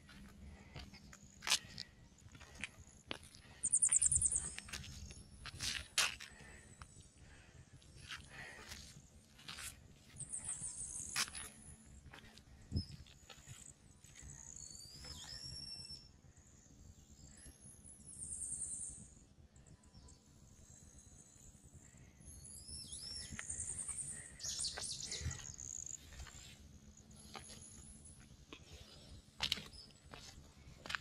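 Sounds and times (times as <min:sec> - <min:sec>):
small birds singing: 0:00.0 - 0:31.0.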